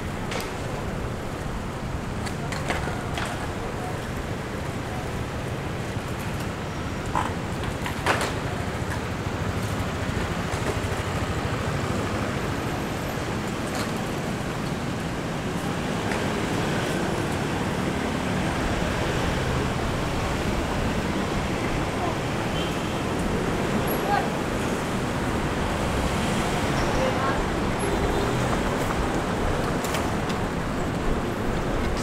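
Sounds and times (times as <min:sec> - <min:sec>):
city road traffic rumble: 0:00.0 - 0:32.0.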